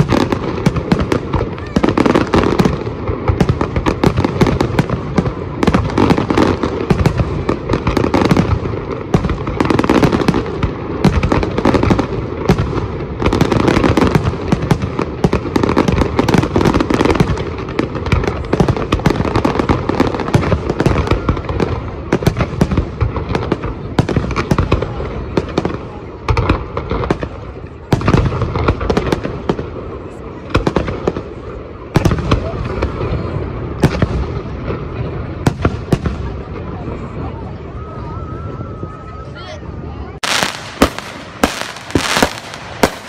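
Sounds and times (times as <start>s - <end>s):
fireworks bangs and pops: 0.0s - 37.3s, 40.2s - 43.0s.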